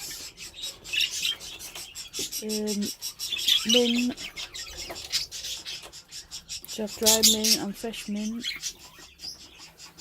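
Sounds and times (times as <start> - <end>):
budgerigars chattering and chirping: 0.0 - 10.0.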